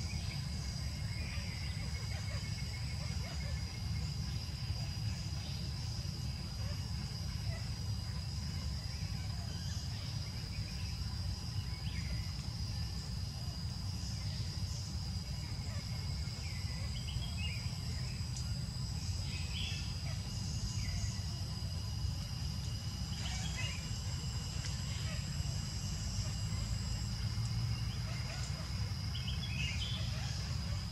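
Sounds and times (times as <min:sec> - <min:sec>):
high insect drone: 0:00.0 - 0:30.9
low constant rumble: 0:00.0 - 0:30.9.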